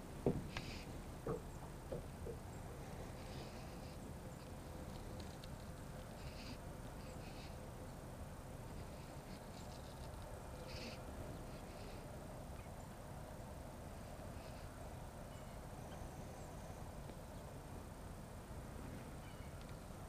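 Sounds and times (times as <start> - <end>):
distant birds chirping: 0.0 - 18.4, 19.0 - 20.0.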